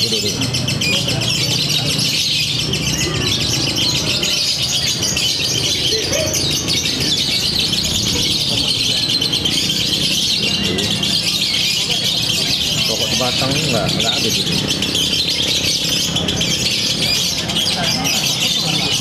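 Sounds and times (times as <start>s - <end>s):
lovebird rapid chattering song: 0.0s - 19.0s
low murmur of voices: 0.0s - 19.0s.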